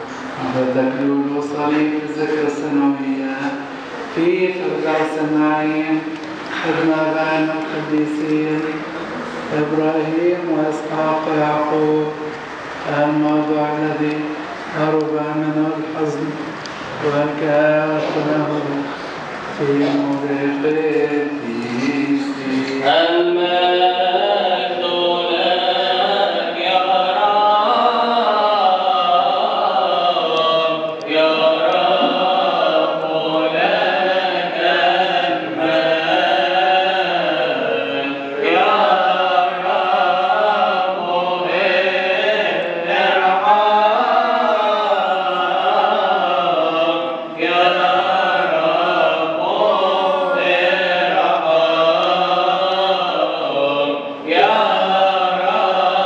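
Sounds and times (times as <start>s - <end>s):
voices chanting a hymn: 0.0s - 56.0s.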